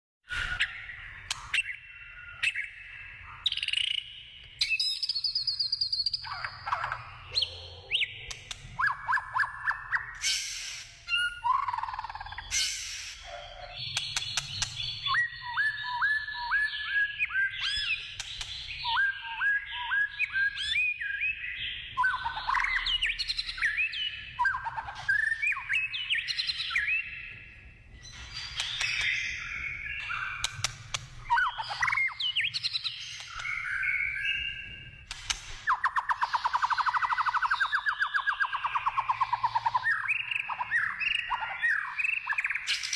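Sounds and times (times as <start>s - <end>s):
bird singing whistled phrases: 0.3s - 27.3s, 28.1s - 35.0s, 35.6s - 42.9s.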